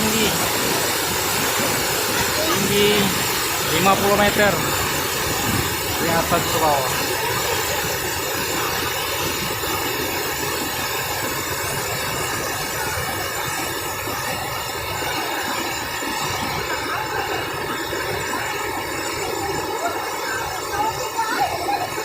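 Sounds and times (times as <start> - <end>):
heavy waterfall rushing: 0.0 - 22.0.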